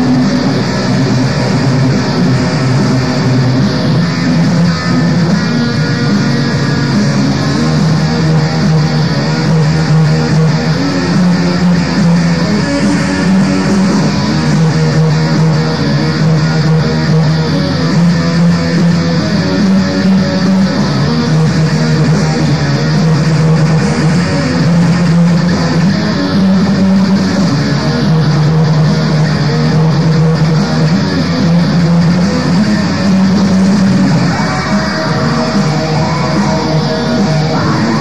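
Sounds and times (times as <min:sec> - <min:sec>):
distorted metal guitars and bass: 0:00.0 - 0:38.0.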